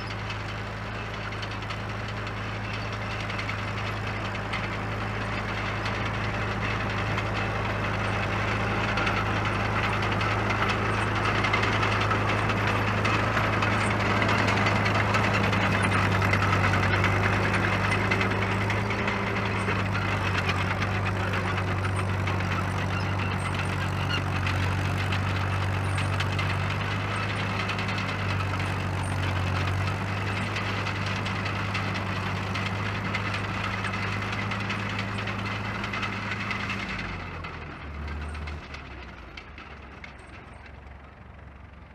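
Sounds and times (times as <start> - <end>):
diesel crawler engine running: 0.0 - 41.9.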